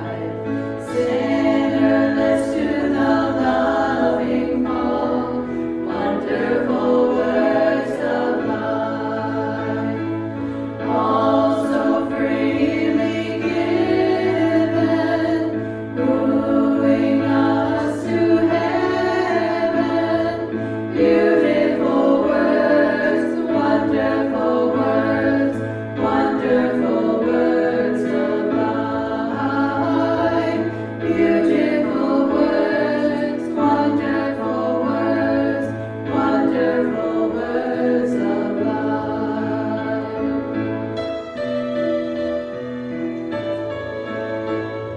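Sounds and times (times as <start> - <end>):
choir singing worship song: 0.0 - 43.9.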